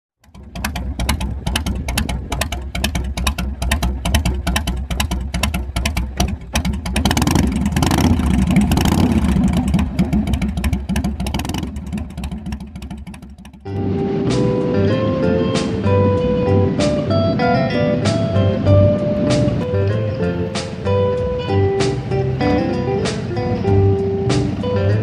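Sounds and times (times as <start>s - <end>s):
motorcycle engine revving: 0.2s - 25.0s.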